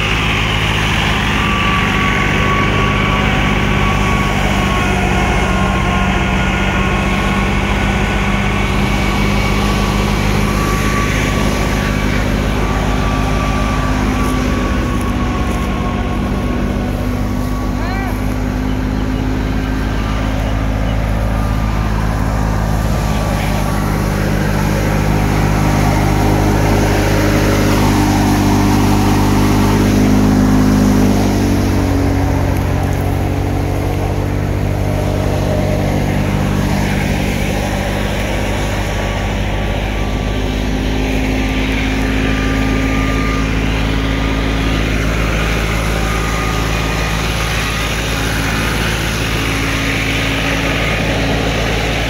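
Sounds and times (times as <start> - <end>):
thresher whirring: 0.0 - 52.0
tractor diesel engine running: 0.0 - 52.0.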